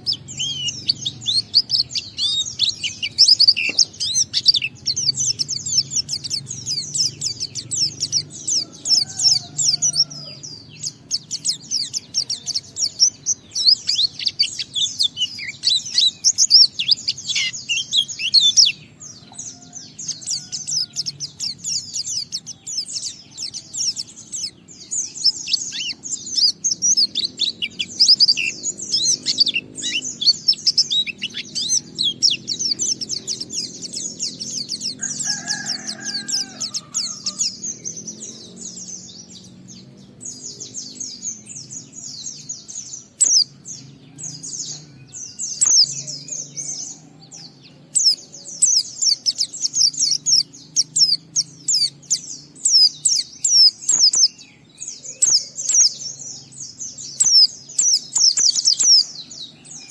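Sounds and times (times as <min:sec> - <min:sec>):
bird singing high twittering notes: 0:00.0 - 0:59.9.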